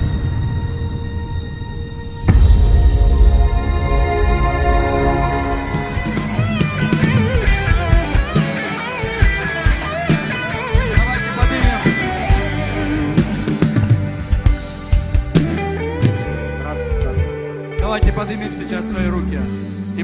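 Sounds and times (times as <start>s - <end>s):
guitar: 0.0s - 20.0s
worship band music: 0.0s - 20.0s
wavering lead melody: 1.4s - 20.0s
drum kit: 2.3s - 18.8s.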